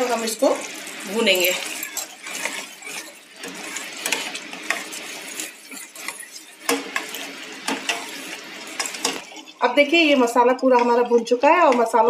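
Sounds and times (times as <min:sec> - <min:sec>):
frying sizzle: 0:00.0 - 0:12.0
spoon scraping a pot: 0:00.0 - 0:12.0.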